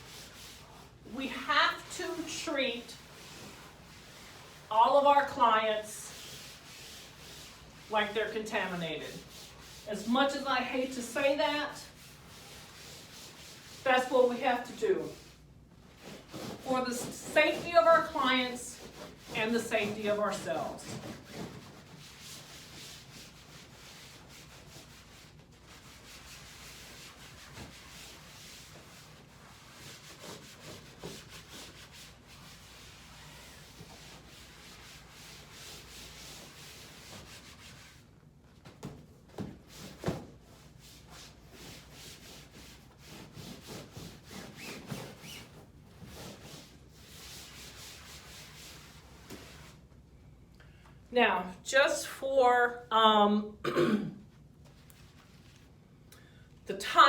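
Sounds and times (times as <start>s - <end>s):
towel scrubbing padded table: 0.0s - 50.0s, 54.2s - 55.8s.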